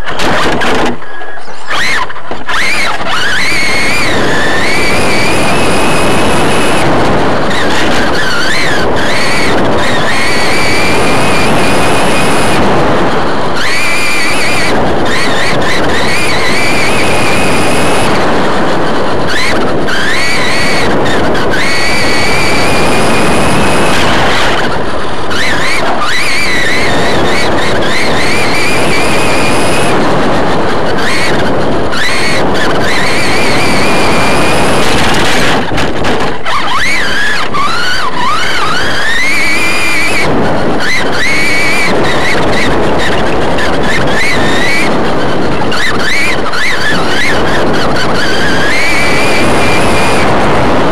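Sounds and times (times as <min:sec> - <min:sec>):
electric motor whine: 0:00.0 - 0:50.9
tyres and wind rushing noise: 0:00.0 - 0:50.9.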